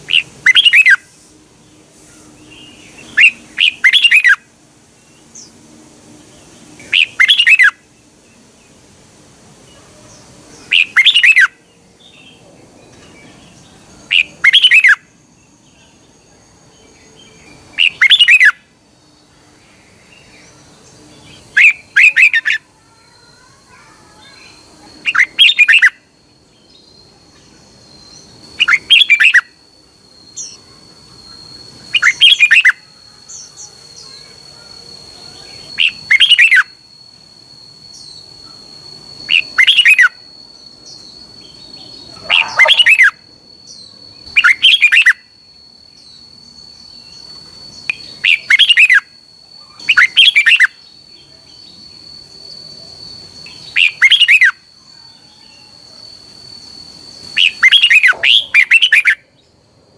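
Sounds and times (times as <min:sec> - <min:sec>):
bird singing: 0:00.0 - 0:08.8, 0:09.6 - 0:59.7
faint steady high tone: 0:00.0 - 0:59.9.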